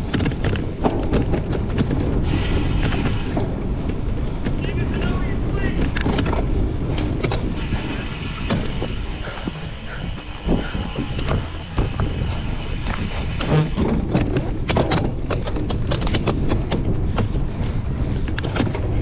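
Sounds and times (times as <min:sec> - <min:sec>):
bike rattling and clicking: 0:00.0 - 0:19.0
bike tyres rumbling on rough ground: 0:00.0 - 0:19.0.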